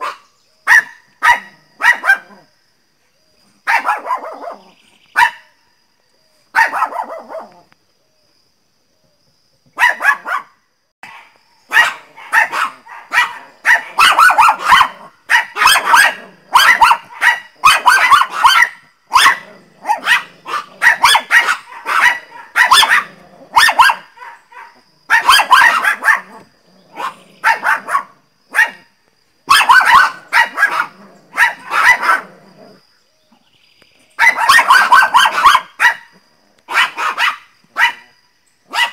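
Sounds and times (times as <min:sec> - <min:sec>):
small dogs barking: 0:00.0 - 0:02.5, 0:03.6 - 0:05.6, 0:06.5 - 0:07.7, 0:09.8 - 0:32.8, 0:34.1 - 0:38.9.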